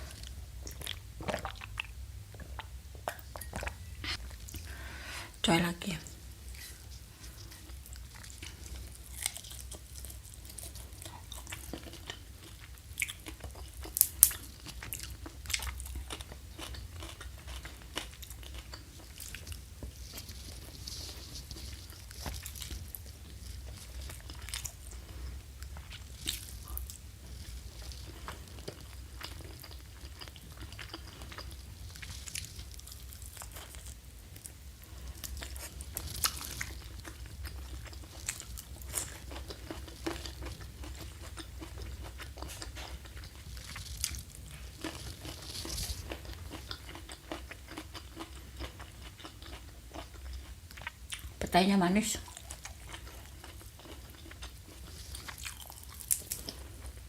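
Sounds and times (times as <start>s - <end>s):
chewing crispy fried food: 0.0s - 57.0s.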